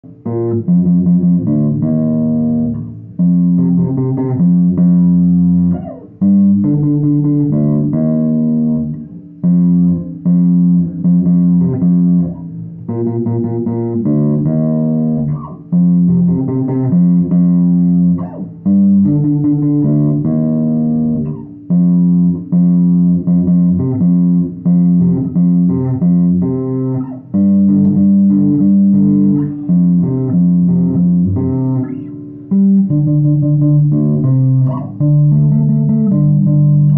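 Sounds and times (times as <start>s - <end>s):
electric bass playing solo: 0.0s - 36.9s.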